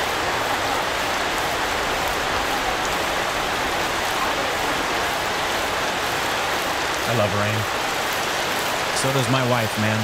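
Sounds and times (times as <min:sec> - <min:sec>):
heavy rain on leafy plants: 0:00.0 - 0:10.0.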